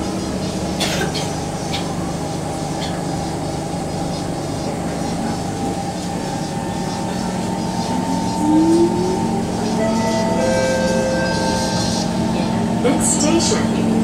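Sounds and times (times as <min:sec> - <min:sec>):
train carriage rumble and hum: 0:00.0 - 0:14.0.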